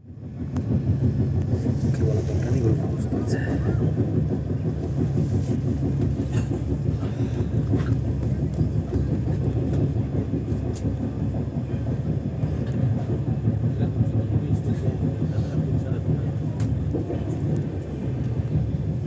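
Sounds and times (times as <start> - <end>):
train coach rumbling on rails: 0.0 - 19.0.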